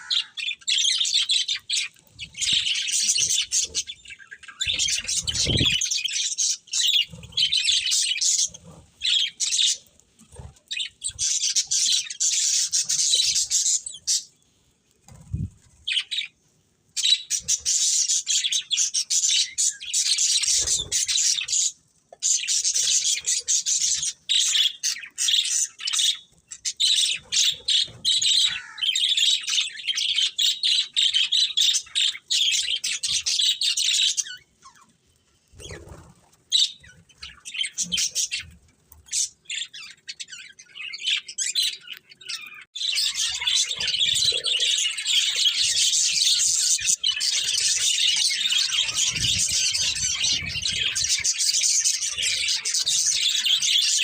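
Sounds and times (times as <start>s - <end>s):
budgerigars chattering and chirping: 0.0s - 9.9s, 10.7s - 14.3s, 17.0s - 34.8s, 35.6s - 54.0s.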